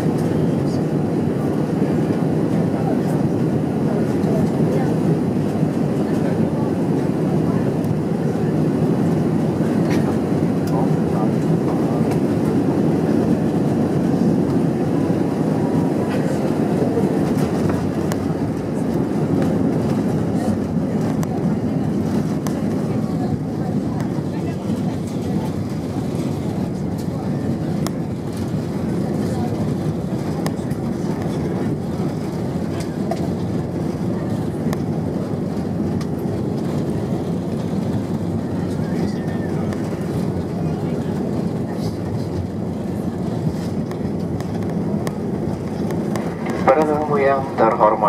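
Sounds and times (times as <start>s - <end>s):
air rushing over wing: 0.0s - 48.0s
wheels rumbling on runway: 0.0s - 48.0s.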